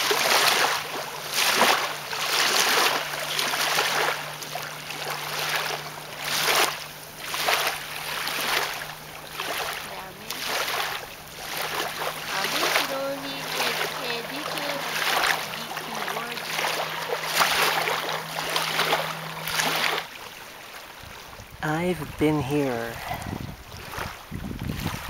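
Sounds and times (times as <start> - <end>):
waves lapping on pebble shore: 0.0 - 25.0.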